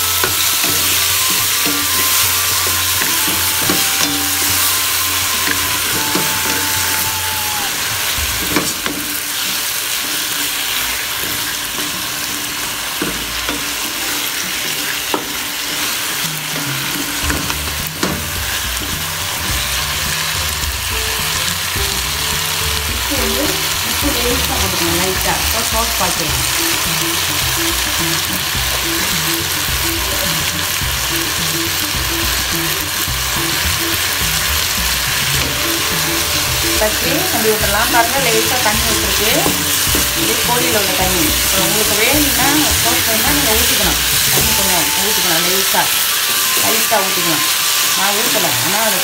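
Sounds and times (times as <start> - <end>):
food sizzling in a wok: 0.0 - 49.0.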